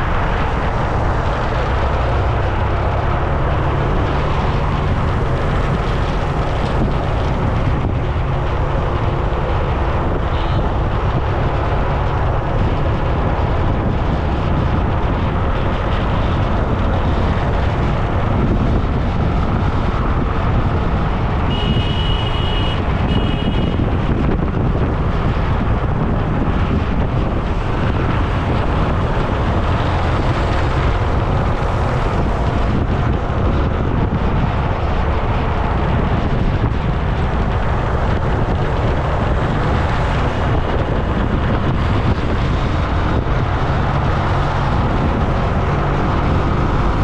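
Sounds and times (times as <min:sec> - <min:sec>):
road and traffic rumble: 0:00.0 - 0:47.0
wind rushing over microphone: 0:00.0 - 0:47.0.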